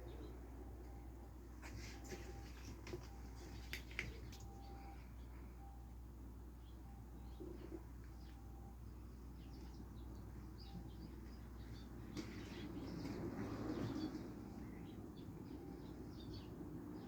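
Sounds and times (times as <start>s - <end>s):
steady low hum: 0.0s - 17.0s
faint bird chirps: 2.1s - 17.0s.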